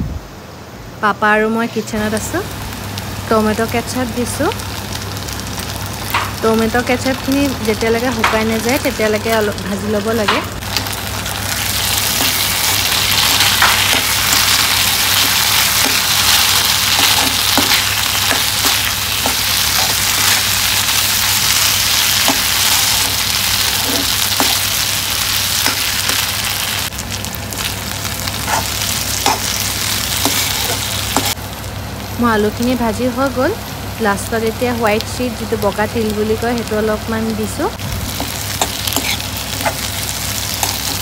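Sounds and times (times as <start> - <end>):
potatoes sizzling in oil: 1.3 - 41.0.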